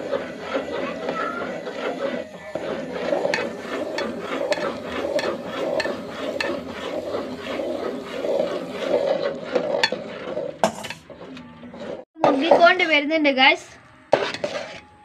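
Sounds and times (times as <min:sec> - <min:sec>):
metal spoon stirring in pot: 0:00.0 - 0:13.0, 0:14.1 - 0:15.0.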